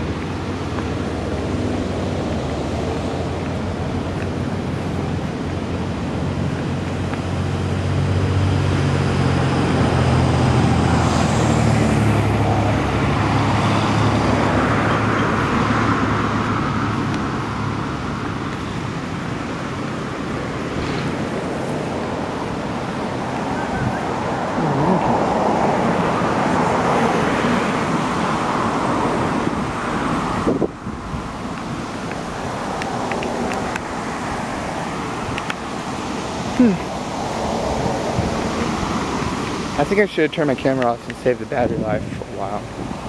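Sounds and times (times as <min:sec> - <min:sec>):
road traffic noise: 0:00.0 - 0:43.0
vehicle engine passing: 0:00.0 - 0:43.0.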